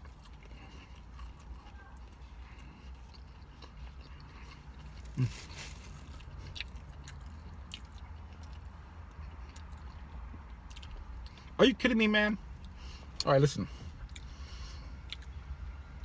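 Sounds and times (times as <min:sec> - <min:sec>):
man chewing: 0:00.0 - 0:11.6, 0:12.5 - 0:15.6.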